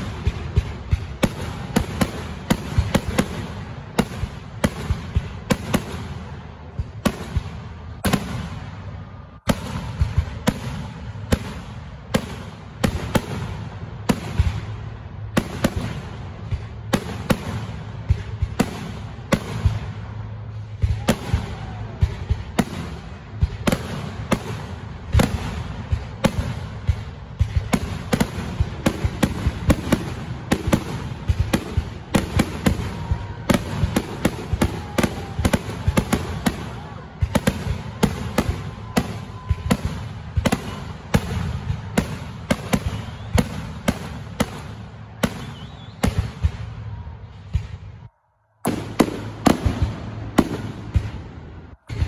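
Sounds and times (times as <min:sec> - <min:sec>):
fireworks background din: 0:00.0 - 0:52.0.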